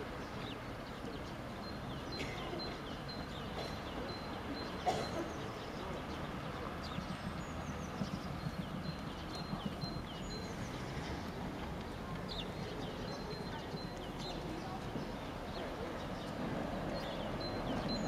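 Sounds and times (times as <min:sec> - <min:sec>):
road traffic hum: 0:00.0 - 0:18.0
small birds chirping: 0:00.0 - 0:18.0.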